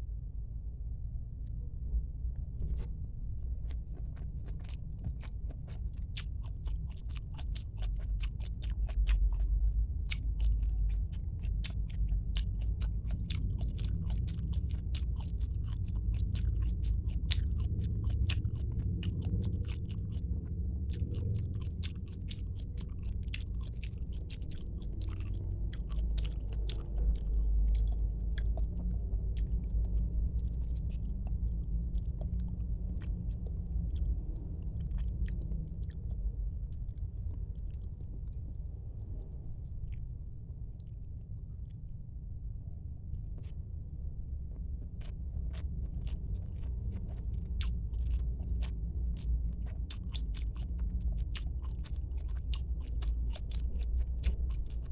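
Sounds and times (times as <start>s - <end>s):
low rumble: 0.0s - 54.9s
chewing and biting: 2.4s - 42.0s, 43.0s - 54.9s.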